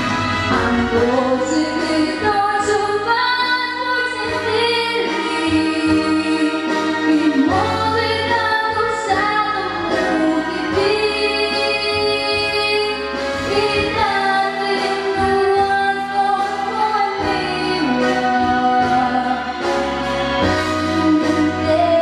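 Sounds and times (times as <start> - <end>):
musical accompaniment: 0.0 - 22.0.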